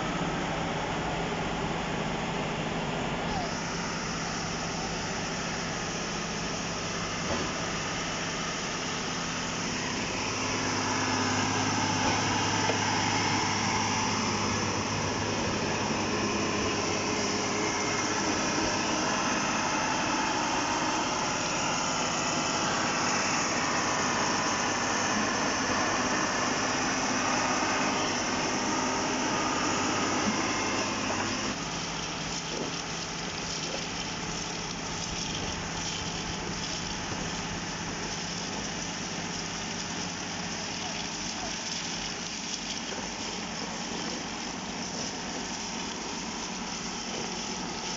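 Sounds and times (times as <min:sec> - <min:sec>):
machine engine humming: 0:00.0 - 0:47.9.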